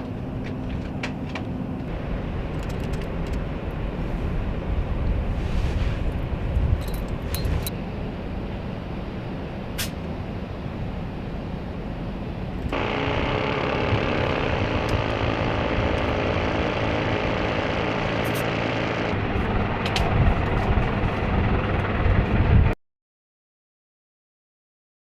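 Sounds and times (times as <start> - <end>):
helicopter turbine engines whining: 0.0 - 5.3, 6.1 - 22.8.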